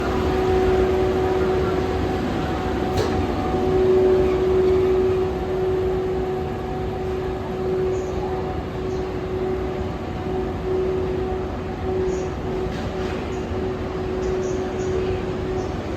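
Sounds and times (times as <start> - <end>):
electric locomotive hum: 0.0 - 15.9
low rail rumble: 0.0 - 15.9.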